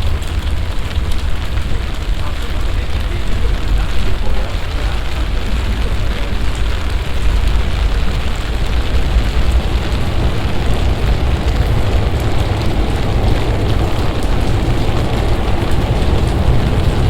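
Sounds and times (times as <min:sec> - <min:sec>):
deep rumble: 0:00.0 - 0:17.0
heavy rain hissing: 0:00.0 - 0:17.0.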